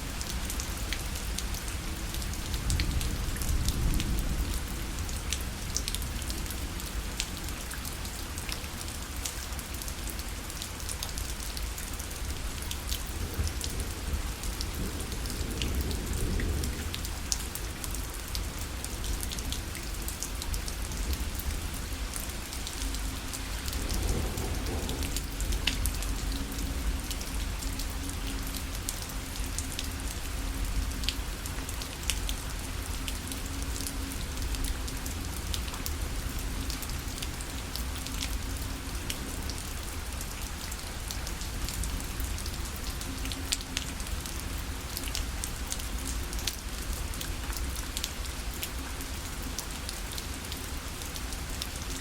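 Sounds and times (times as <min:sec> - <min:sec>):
rain drops ticking on a parasol: 0:00.0 - 0:52.0.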